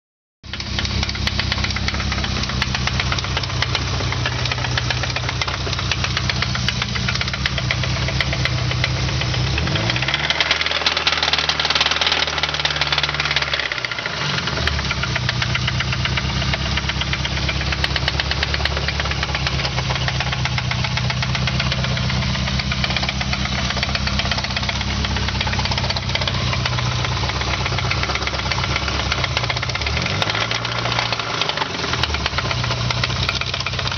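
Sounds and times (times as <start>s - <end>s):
car engine with rod knock: 0.5s - 33.9s.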